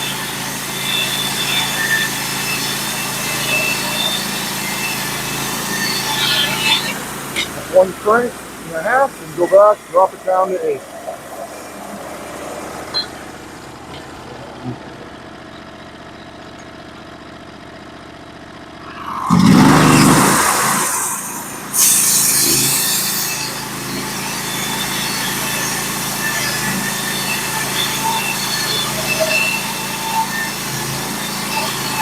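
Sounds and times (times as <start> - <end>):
band saw cutting wood: 0.0 - 15.5, 18.8 - 32.0
sawmill engine idling and revving: 0.0 - 32.0.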